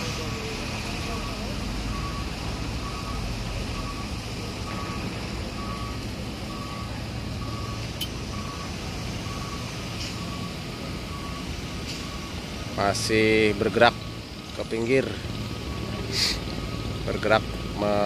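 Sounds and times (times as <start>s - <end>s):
reversing alarm beeping: 0.0s - 18.0s.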